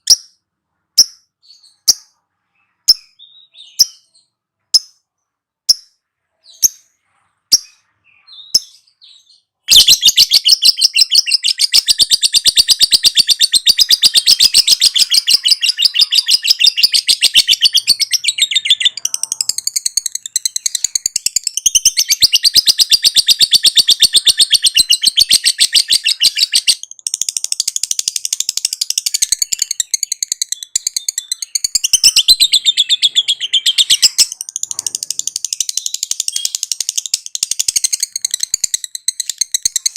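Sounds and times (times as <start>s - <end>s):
lovebird chirping and trilling: 0.0s - 39.9s.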